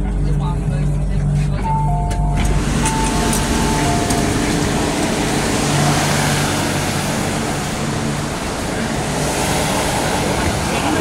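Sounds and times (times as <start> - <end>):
low hum of train: 0.0 - 11.0.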